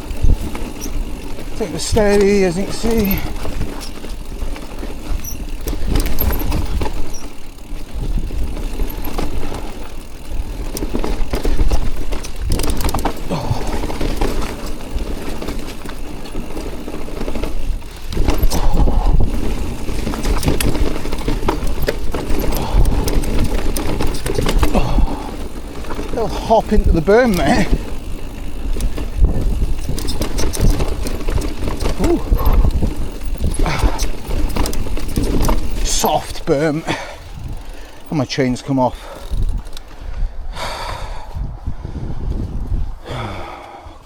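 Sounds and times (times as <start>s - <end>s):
wind rumble on microphone: 0.0s - 35.9s, 37.2s - 38.1s, 39.2s - 44.0s
bike rattling over bumps: 0.0s - 44.0s.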